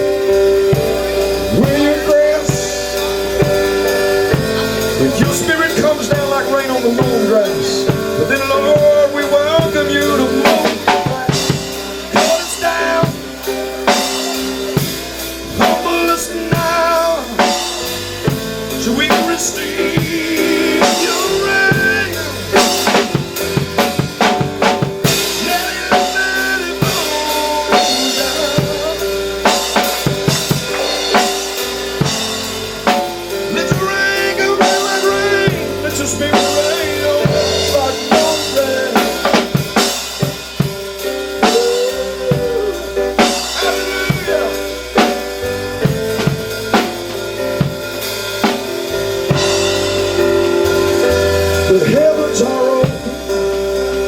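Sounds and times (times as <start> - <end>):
drum kit fills: 0.0 - 54.0
gospel band music: 0.0 - 54.0.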